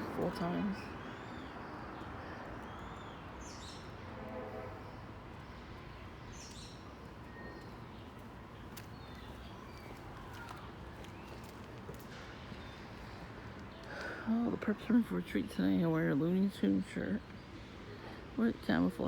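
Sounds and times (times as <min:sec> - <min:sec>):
birds chirping: 0:00.0 - 0:18.2.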